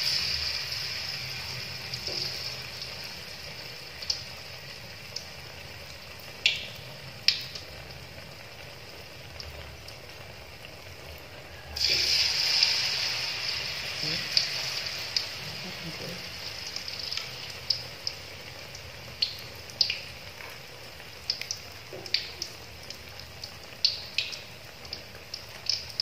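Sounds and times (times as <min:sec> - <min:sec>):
batter deep-frying in hot oil: 0:00.0 - 0:26.0.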